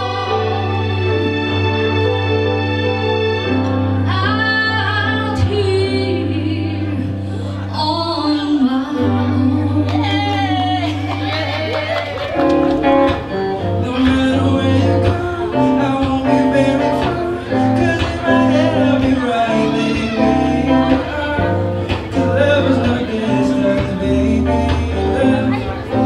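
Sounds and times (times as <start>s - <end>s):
bass line: 0.0s - 26.0s
electric guitar: 0.0s - 26.0s
person singing: 4.1s - 26.0s.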